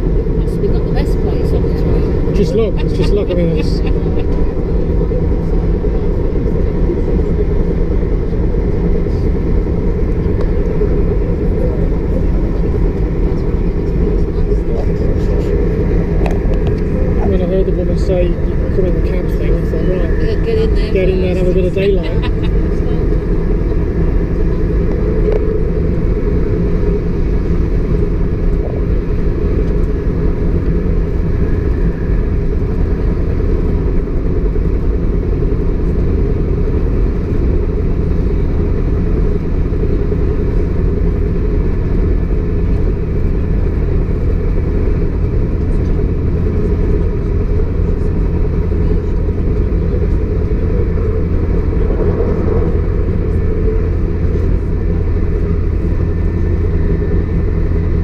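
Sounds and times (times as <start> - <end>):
diesel engine low rumble: 0.0 - 58.0.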